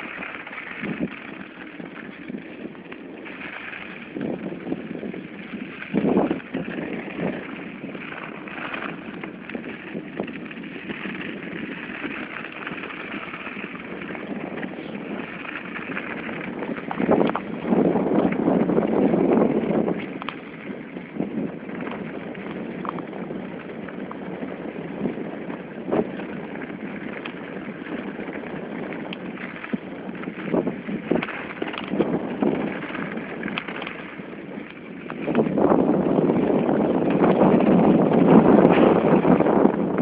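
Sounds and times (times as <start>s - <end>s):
bicycle tyres crunching on snow: 0.0s - 40.0s.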